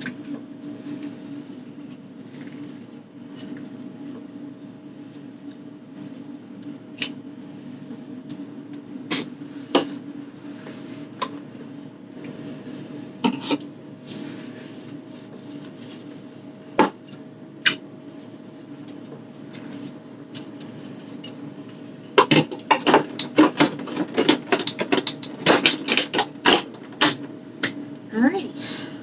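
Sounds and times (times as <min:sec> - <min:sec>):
fridge hum: 0:00.0 - 0:29.0.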